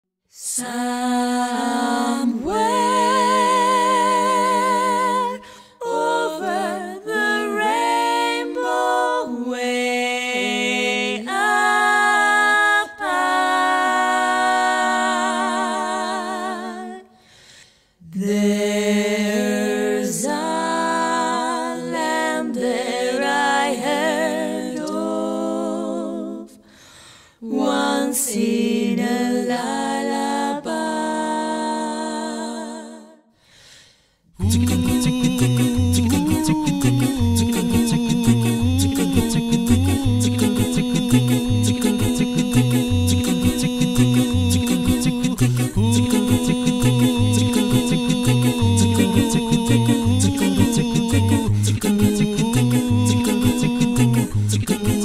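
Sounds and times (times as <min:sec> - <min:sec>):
unaccompanied group singing: 0:00.4 - 0:17.2, 0:18.2 - 0:26.6, 0:27.4 - 0:33.2, 0:34.4 - 0:55.0.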